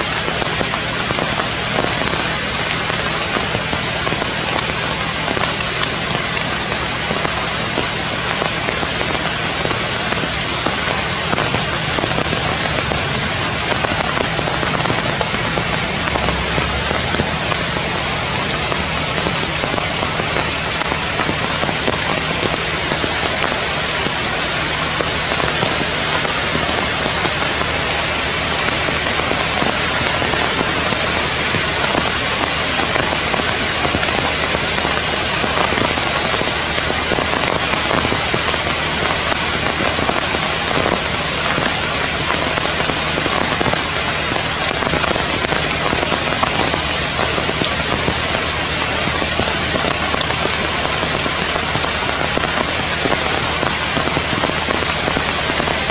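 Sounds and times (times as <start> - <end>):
rain falling on leaves: 0.0 - 55.9.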